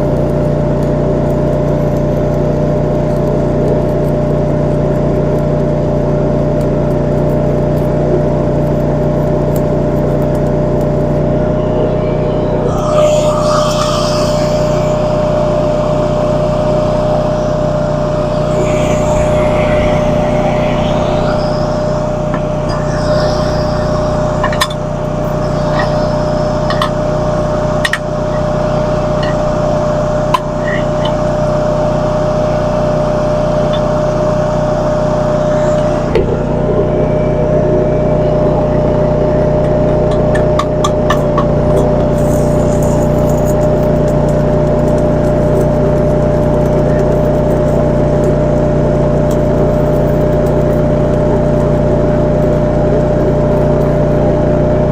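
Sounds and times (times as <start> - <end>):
constant whine: 0.0 - 54.9
machinery drone: 0.0 - 54.9
small engine running: 0.0 - 54.9.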